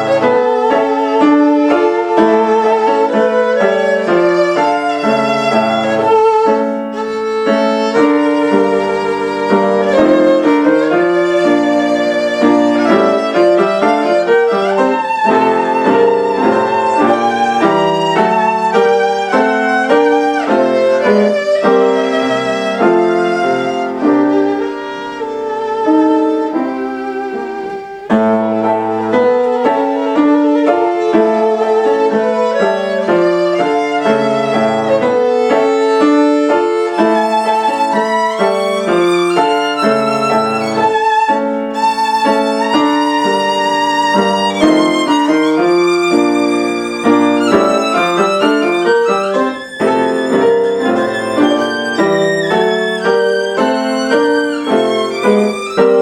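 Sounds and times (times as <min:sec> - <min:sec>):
piano accompaniment: 0:00.0 - 0:56.0
violin melody with vibrato: 0:00.0 - 0:56.0.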